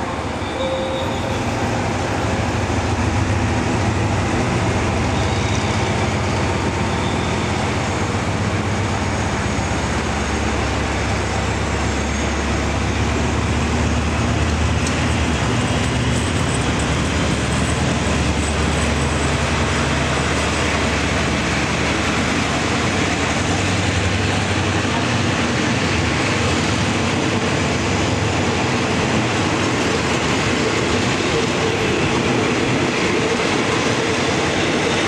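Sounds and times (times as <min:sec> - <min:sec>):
diesel locomotive engine: 0:00.0 - 0:35.0
train rumble: 0:00.0 - 0:35.0.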